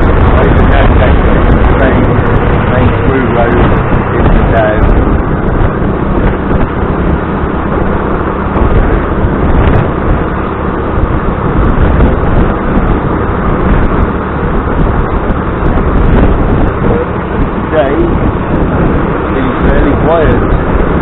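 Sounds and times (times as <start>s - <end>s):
loud steady rush: 0.0s - 21.0s.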